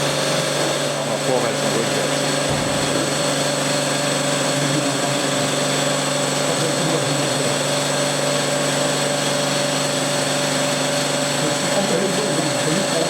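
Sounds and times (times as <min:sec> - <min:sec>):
grinding machine running: 0:00.0 - 0:13.0.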